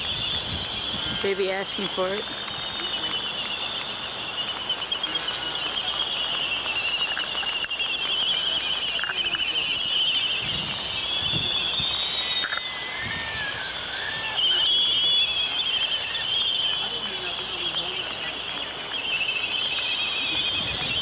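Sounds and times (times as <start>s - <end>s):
albatross chick squealing: 0.0s - 21.0s.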